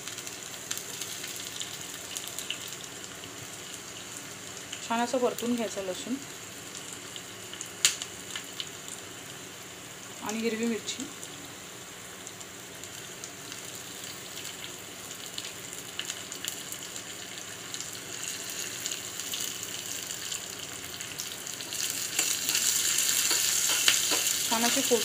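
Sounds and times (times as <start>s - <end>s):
spices sizzling in hot oil: 0.0s - 25.0s.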